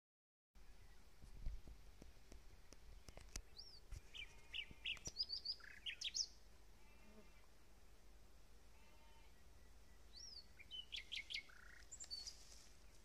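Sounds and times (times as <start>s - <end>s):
songbird singing: 0.6s - 1.6s, 2.3s - 13.0s.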